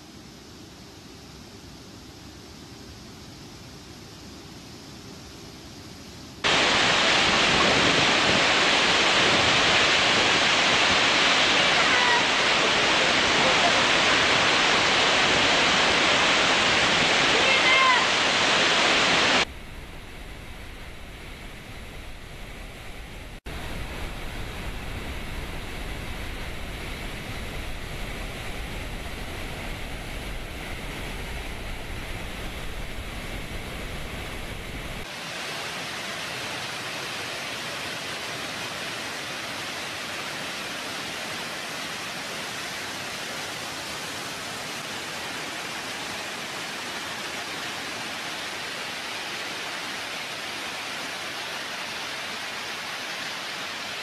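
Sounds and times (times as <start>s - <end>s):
water rushing from dam spillways: 6.4s - 54.0s.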